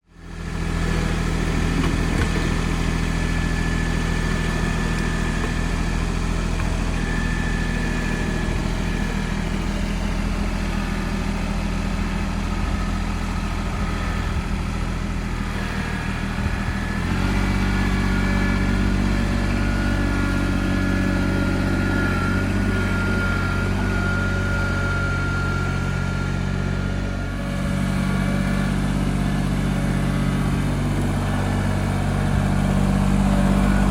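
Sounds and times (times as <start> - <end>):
high whine: 0.0 - 33.9
tractor diesel engine running: 0.0 - 33.9.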